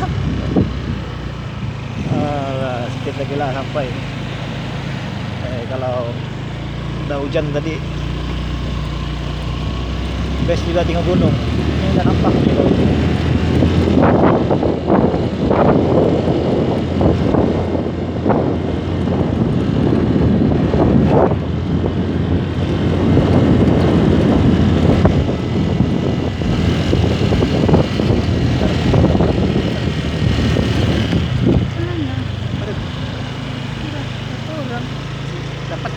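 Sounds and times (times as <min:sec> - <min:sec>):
wind buffeting microphone: 0:00.0 - 0:07.7, 0:08.4 - 0:35.8
scooter engine and road rumble: 0:00.0 - 0:35.9.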